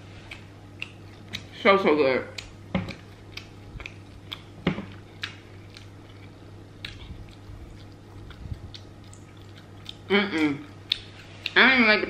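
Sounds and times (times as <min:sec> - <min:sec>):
low steady hum: 0:00.0 - 0:12.0
chewing with wet mouth clicks: 0:00.3 - 0:01.6, 0:02.3 - 0:11.6.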